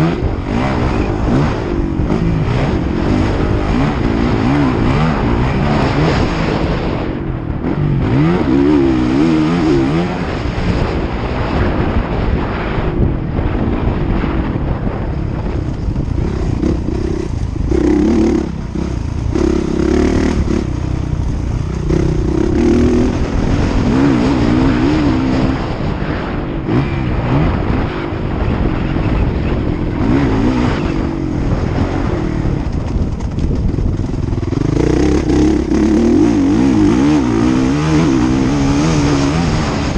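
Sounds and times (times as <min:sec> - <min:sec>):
motocross bike engines revving: 0:00.0 - 0:12.8, 0:13.7 - 0:39.9.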